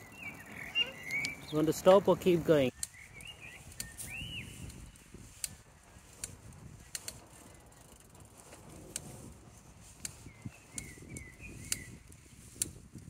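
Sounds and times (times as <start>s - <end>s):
bicycle mechanical clicks: 0.0s - 13.0s
tyre and wind noise: 0.0s - 13.0s.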